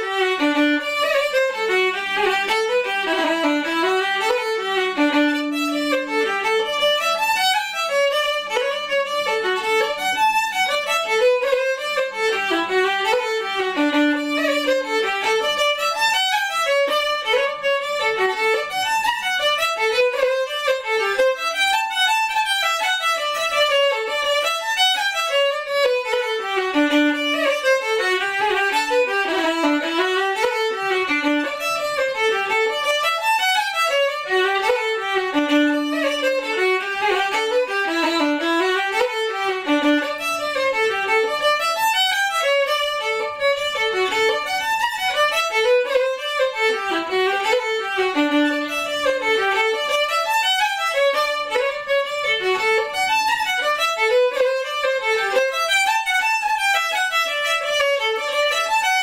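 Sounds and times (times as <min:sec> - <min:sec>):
solo fiddle dance tune: 0:00.0 - 0:59.0.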